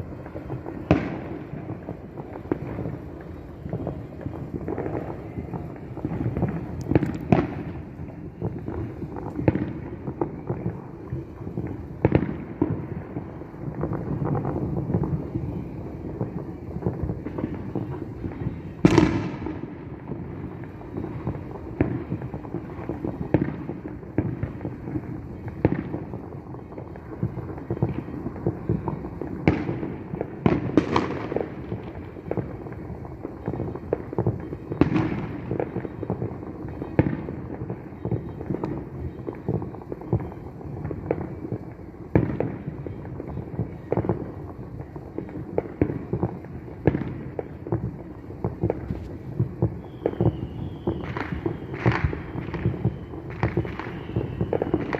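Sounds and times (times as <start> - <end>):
fireworks booms and crackles: 0.0 - 54.9
sharp fireworks bangs: 0.0 - 54.9.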